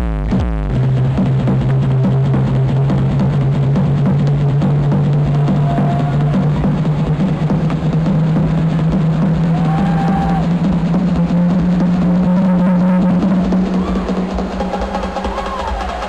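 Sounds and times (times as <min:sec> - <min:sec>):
loud techno music: 0:00.0 - 0:16.0.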